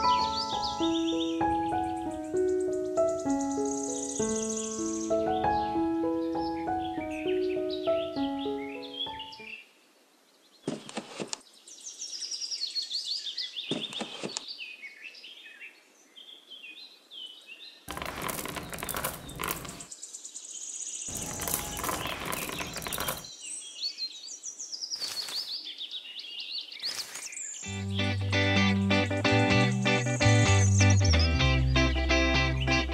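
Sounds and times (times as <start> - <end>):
small birds chirping: 0.0 - 10.8, 11.4 - 28.2.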